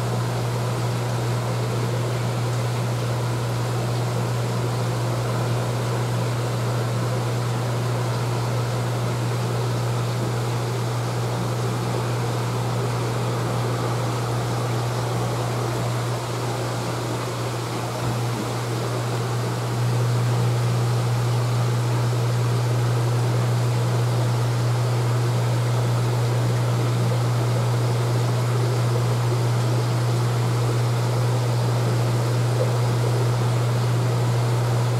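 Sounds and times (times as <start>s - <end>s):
aquarium pump hum: 0.0s - 34.9s.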